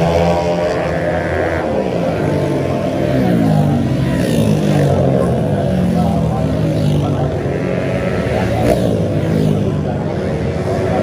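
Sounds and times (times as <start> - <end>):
scooter engines revving past: 0.0 - 11.0.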